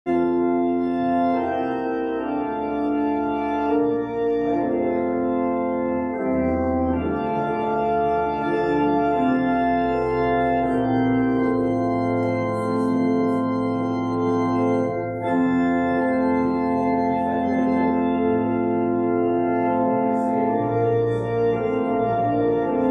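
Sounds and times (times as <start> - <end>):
pipe organ chords: 0.1 - 22.9.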